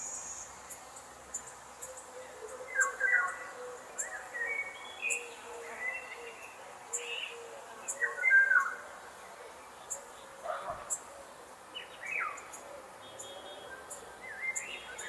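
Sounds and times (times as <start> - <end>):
insects chirping: 0.0 - 15.0
songbirds chirping: 0.0 - 15.0.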